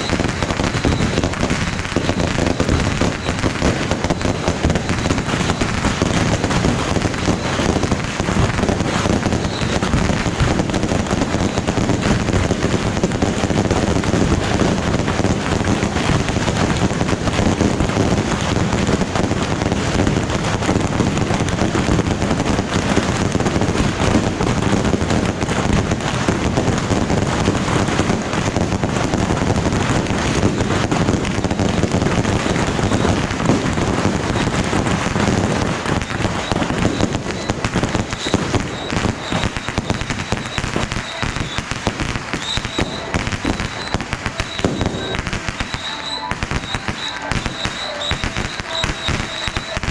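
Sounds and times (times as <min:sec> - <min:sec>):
fireworks crackling: 0:00.0 - 0:49.9.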